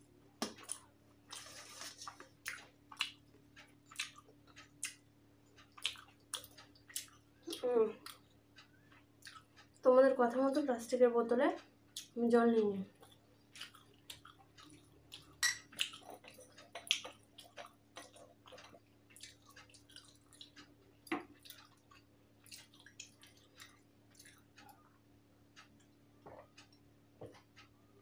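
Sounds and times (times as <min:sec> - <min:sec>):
person chewing food: 0:00.3 - 0:09.8, 0:13.0 - 0:27.8.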